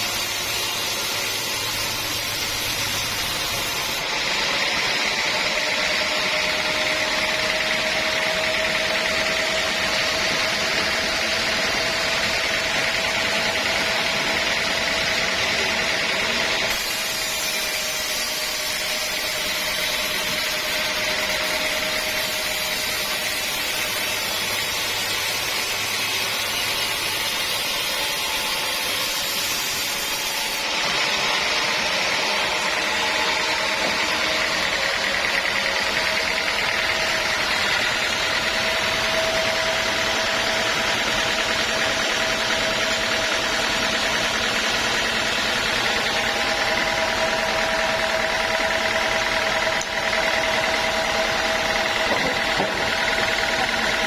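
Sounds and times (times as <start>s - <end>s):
sawmill saw whining: 0.0s - 54.0s.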